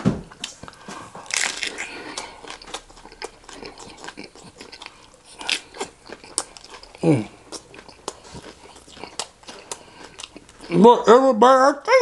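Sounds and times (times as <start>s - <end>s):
crisp chewing crunches: 0.4s - 10.8s
biting into lettuce wrap: 1.2s - 10.8s.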